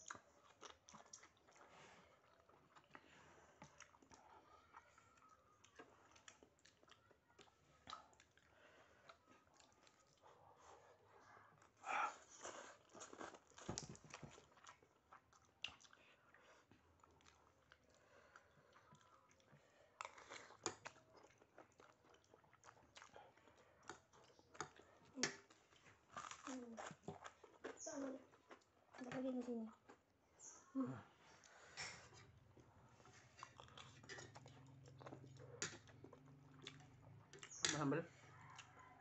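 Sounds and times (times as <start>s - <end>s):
chewing food: 0.0s - 39.0s.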